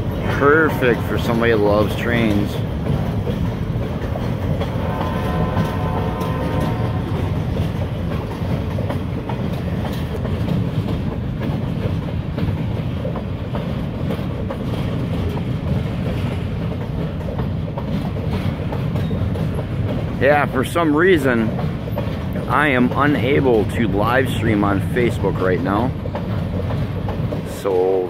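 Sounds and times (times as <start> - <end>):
freight train rumbling past: 0.0 - 28.0
wheels clacking over rail joints: 0.0 - 28.0.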